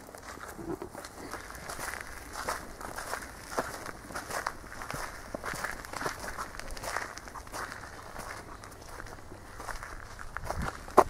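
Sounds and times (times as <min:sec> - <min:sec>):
footsteps on dirt path: 0:00.0 - 0:11.0.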